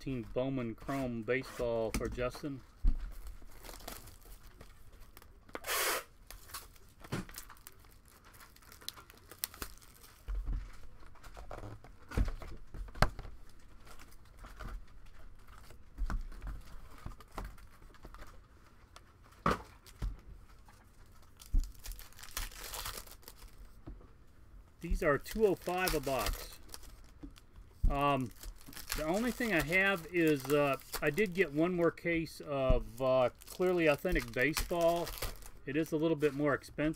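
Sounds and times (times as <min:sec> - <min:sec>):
wrapping tearing and crinkling: 0:02.5 - 0:23.8, 0:24.8 - 0:36.4.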